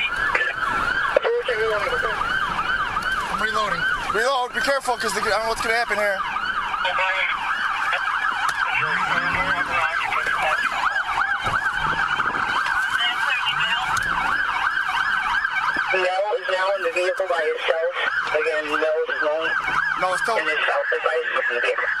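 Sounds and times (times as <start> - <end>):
police siren yelping: 0.0 - 22.0.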